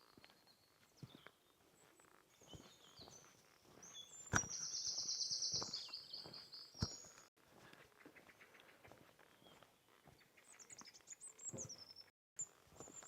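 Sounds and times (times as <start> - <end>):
songbird singing: 0.0 - 7.3, 7.9 - 13.0.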